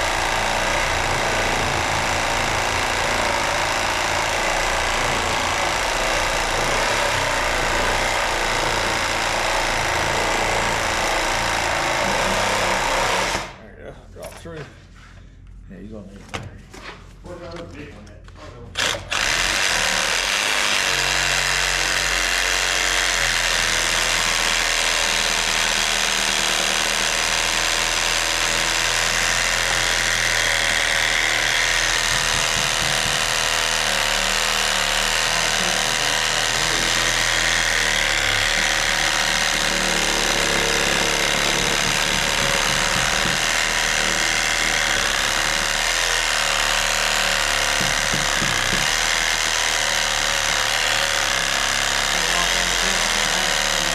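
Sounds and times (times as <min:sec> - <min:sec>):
power saw cutting wood: 0:00.0 - 0:13.6, 0:18.8 - 0:53.9.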